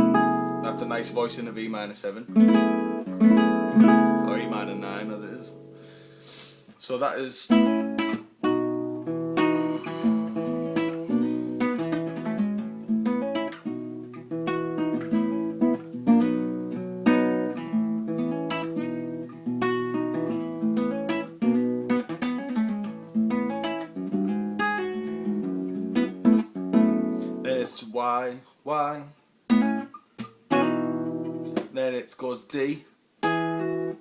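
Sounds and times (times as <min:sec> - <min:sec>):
guitar strummed and picked: 0:00.0 - 0:06.3, 0:07.5 - 0:27.6, 0:29.5 - 0:31.7, 0:33.2 - 0:34.0.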